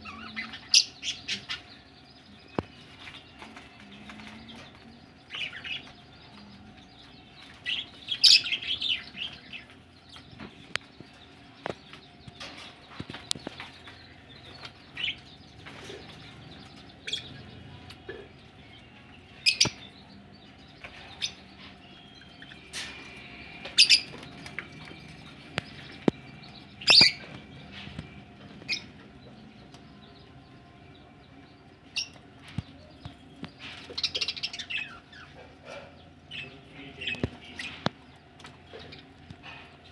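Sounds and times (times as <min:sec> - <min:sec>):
budgerigars chirping: 0:00.0 - 0:01.9, 0:07.0 - 0:39.9
faint steady hum: 0:00.0 - 0:39.9.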